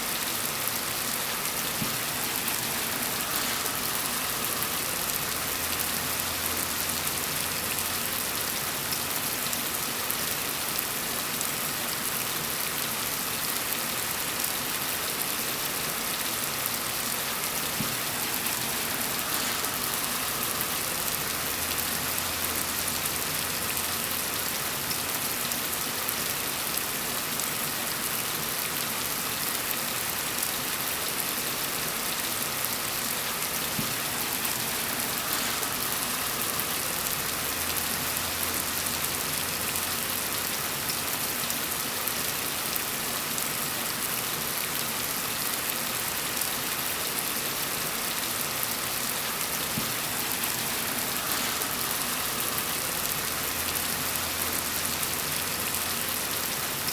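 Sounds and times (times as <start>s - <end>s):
rain hissing on a surface: 0.0s - 56.9s.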